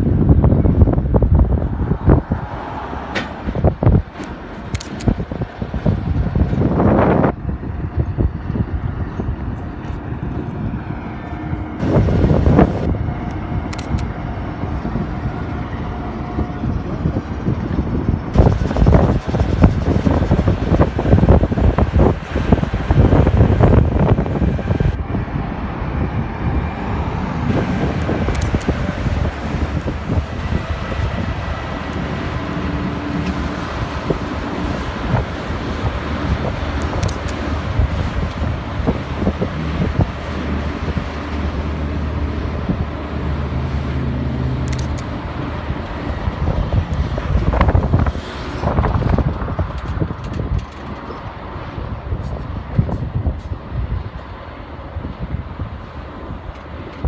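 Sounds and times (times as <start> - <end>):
diesel locomotive engine hum: 0.0 - 57.0
low vehicle rumble: 0.0 - 57.0
wind buffeting microphone: 0.0 - 57.0.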